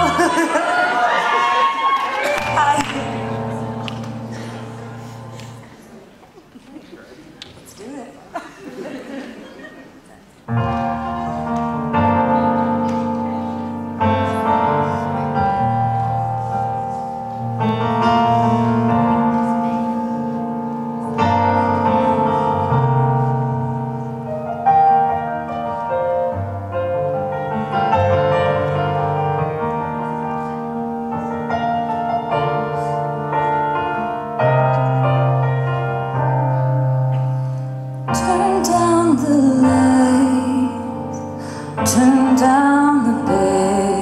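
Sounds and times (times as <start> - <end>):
piano ballad chords: 0.0 - 6.1, 10.4 - 44.0.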